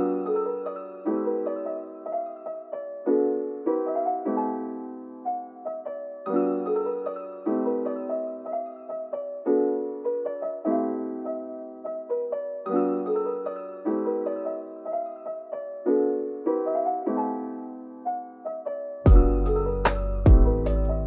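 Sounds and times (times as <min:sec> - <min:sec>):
piano chords and melody: 0:00.0 - 0:21.0.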